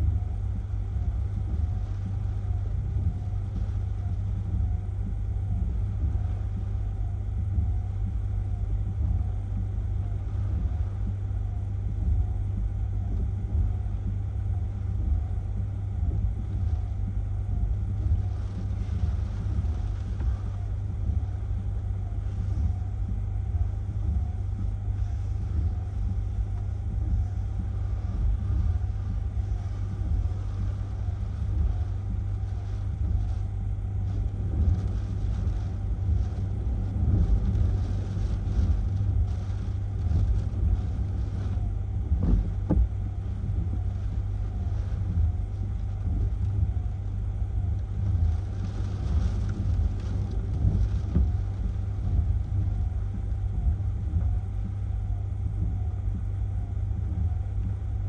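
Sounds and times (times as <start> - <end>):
hurricane wind buffeting microphone: 0.0 - 58.0.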